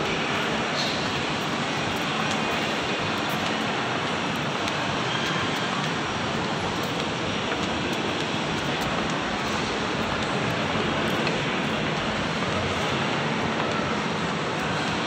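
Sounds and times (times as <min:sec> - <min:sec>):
shopping mall ambience: 0:00.0 - 0:15.0.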